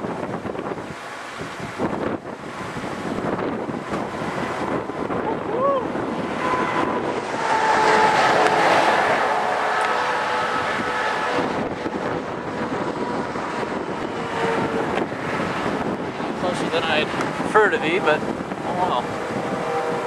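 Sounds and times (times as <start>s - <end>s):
wind across microphone: 0.0s - 20.0s.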